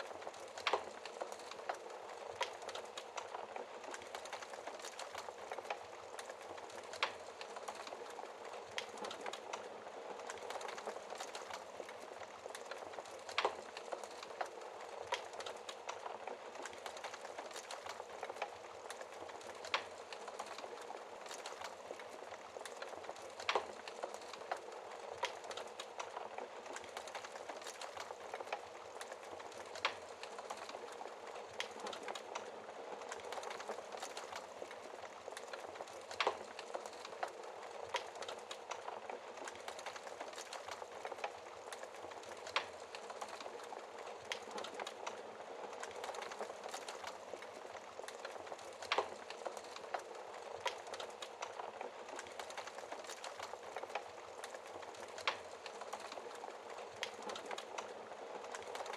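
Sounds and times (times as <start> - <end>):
fire crackling in fireplace: 0.0 - 58.9.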